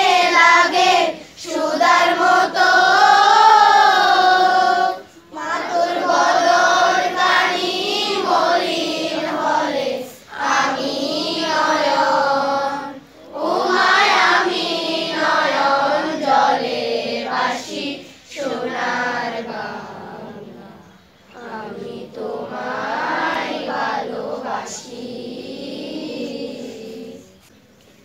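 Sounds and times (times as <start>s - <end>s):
students singing in unison: 0.0s - 27.5s.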